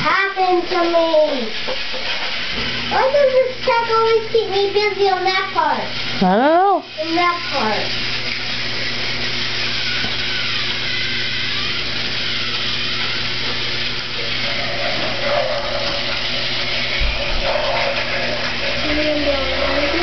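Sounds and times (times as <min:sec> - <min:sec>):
toy electric motors whirring: 0:00.0 - 0:20.0.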